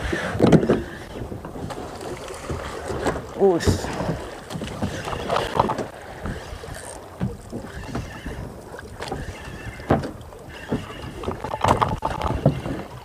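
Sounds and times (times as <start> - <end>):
water against boat hull: 0.0 - 13.0.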